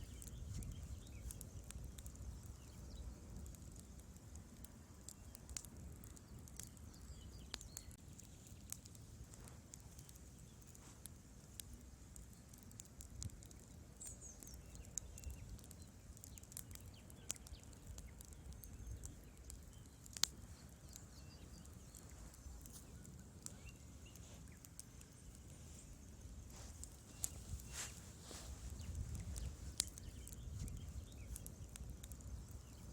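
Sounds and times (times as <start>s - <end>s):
low rumble of flames: 0.0s - 32.9s
wood fire crackling and popping: 0.0s - 32.9s.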